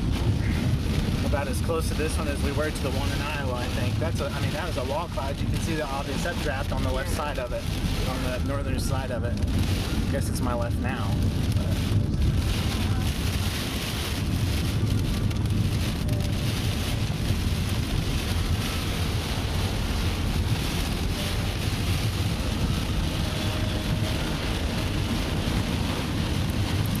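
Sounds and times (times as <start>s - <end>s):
low vehicle rumble: 0.0s - 27.0s
steady rain: 0.0s - 27.0s
wind noise: 0.0s - 27.0s.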